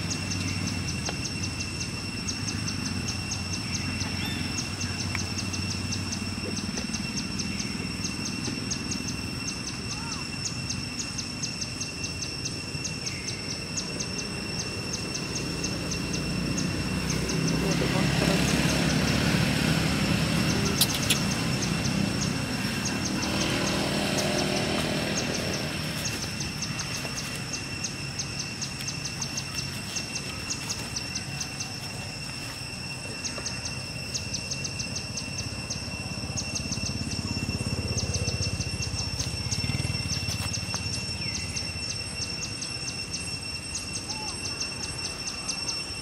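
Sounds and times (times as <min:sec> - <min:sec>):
rapid high-pitched chirps: 0:00.0 - 0:46.0
steady high whine: 0:00.0 - 0:46.0.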